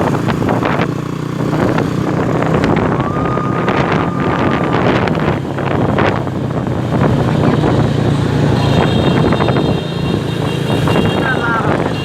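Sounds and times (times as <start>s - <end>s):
motorbike engines running: 0.0s - 12.0s
wind on microphone: 0.0s - 12.0s.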